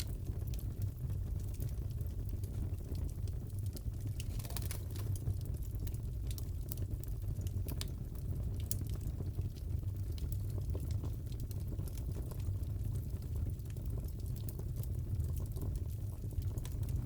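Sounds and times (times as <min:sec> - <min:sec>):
fire crackling and popping: 0:00.0 - 0:17.0
low rumble of burning fire: 0:00.0 - 0:17.0.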